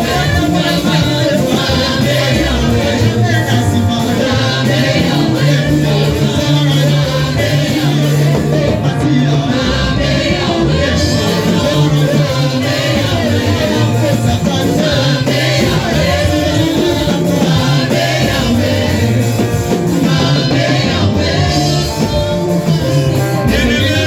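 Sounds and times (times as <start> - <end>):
choir singing gospel: 0.0 - 24.0
instrumental accompaniment: 0.0 - 24.0.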